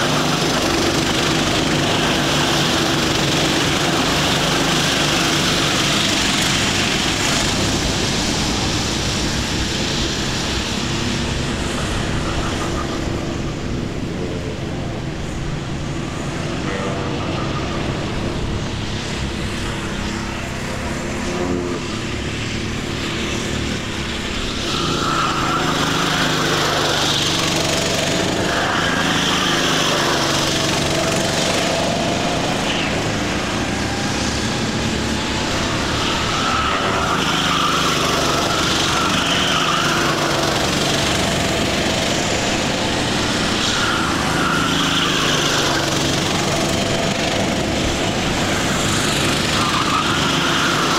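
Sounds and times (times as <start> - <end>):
racing kart engines: 0.0 - 50.9.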